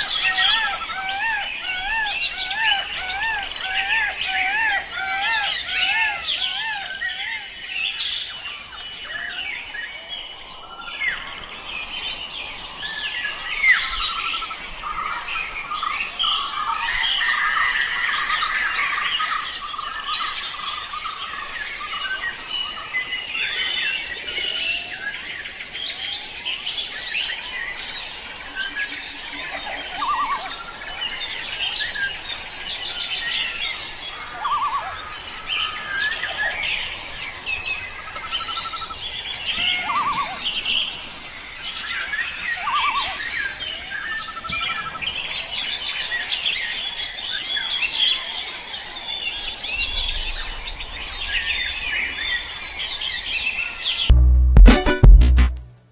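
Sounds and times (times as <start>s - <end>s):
forest birds chirping: 0.0s - 54.1s.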